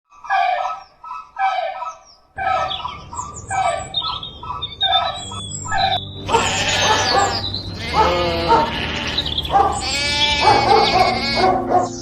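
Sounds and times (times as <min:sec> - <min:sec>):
fowl calling: 0:00.1 - 0:12.0
higher bird chirps: 0:00.1 - 0:12.0.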